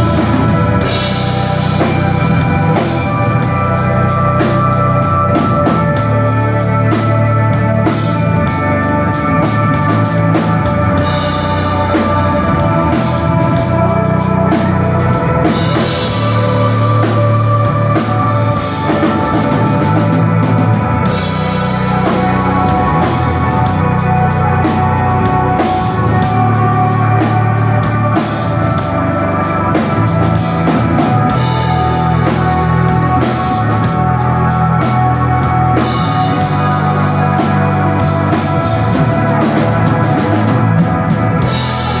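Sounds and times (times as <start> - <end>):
bass: 0.0 - 42.0
drum kit: 0.0 - 42.0
electric guitar: 0.0 - 42.0.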